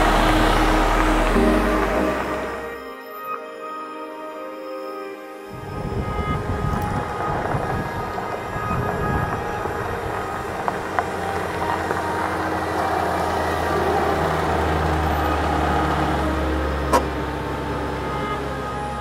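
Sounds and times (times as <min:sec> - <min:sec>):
car passing by: 0:00.0 - 0:03.0, 0:05.6 - 0:19.0.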